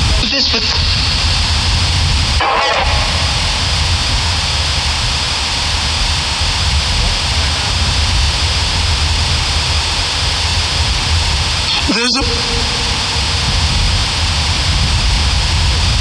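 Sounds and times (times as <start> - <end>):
static hiss: 0.0 - 16.0
low rumble: 0.8 - 16.0.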